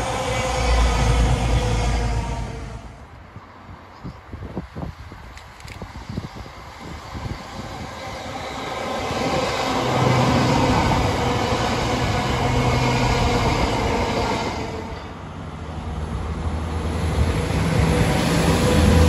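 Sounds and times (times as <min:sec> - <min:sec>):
diesel train engine droning: 0:00.0 - 0:03.4, 0:06.2 - 0:19.0
second train approaching: 0:00.0 - 0:03.7, 0:05.6 - 0:19.0.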